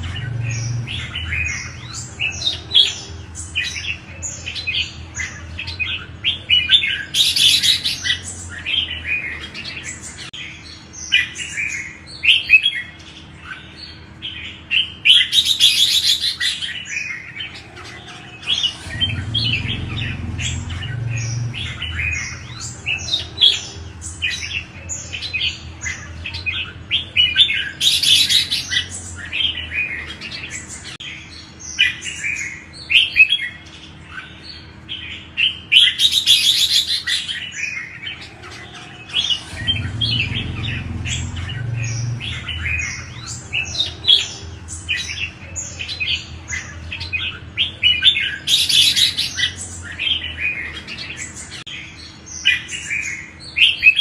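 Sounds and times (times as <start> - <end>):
bulbuls chirping and warbling: 0.0 - 54.0.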